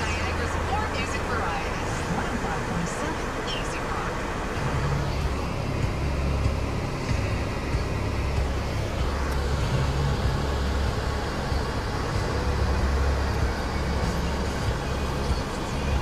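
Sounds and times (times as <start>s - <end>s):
idling car engines: 0.0s - 16.0s
road traffic: 0.0s - 16.0s.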